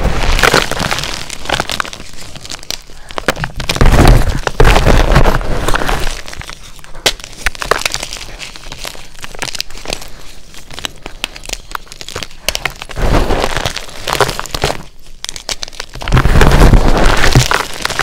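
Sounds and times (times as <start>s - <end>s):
chalk crumbling and cracking: 0.0s - 18.0s
dense chalk crunch: 0.0s - 18.0s.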